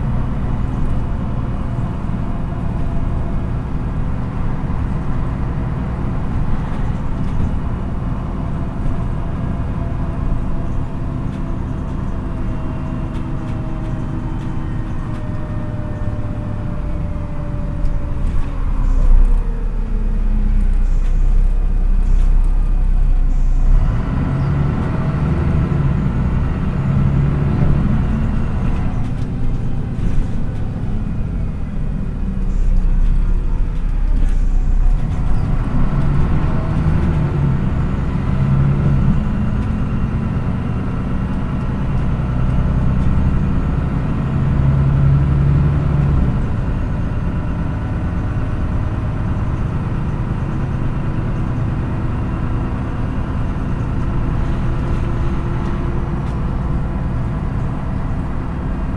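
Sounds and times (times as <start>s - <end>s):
bus diesel engine running: 0.0s - 58.9s
road noise: 0.0s - 58.9s.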